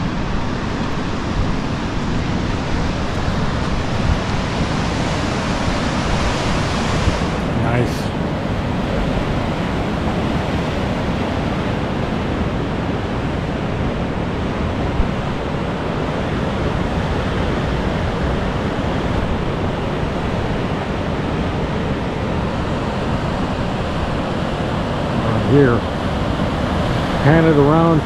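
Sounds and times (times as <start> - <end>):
ocean surf breaking on rocks: 0.0 - 28.0.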